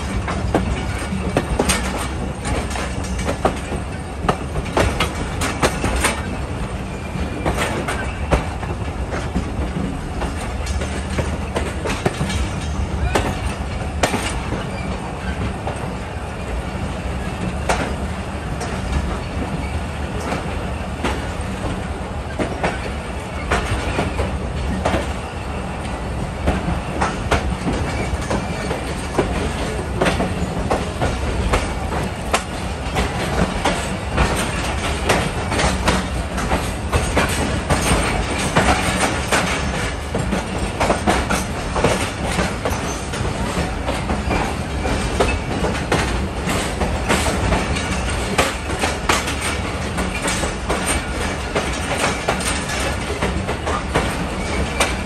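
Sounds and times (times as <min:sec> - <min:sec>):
train wheels clicking over rail joints: 0:00.0 - 0:55.0.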